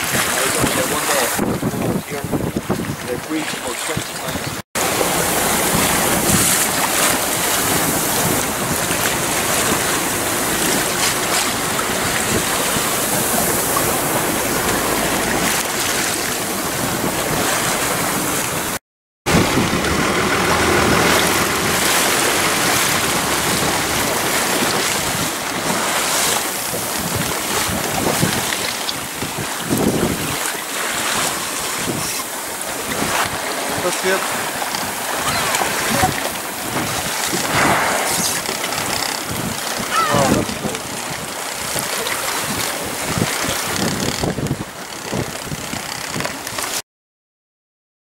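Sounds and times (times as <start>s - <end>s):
wind buffeting microphone: 0.0s - 46.6s
water rushing around boat: 0.0s - 46.8s.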